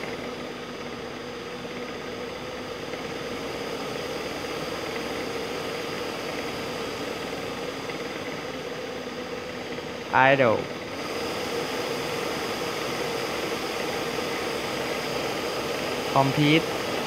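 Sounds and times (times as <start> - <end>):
electric blower fan whirring: 0.0 - 17.0.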